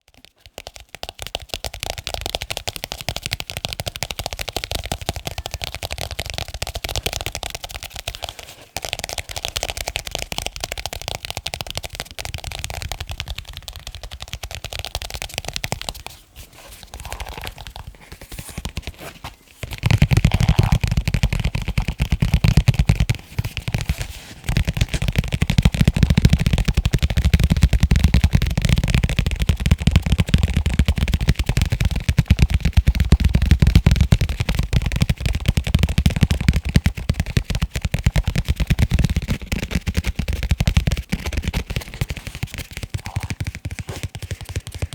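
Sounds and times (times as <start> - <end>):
fast tapping on leather cases: 0.0 - 44.9.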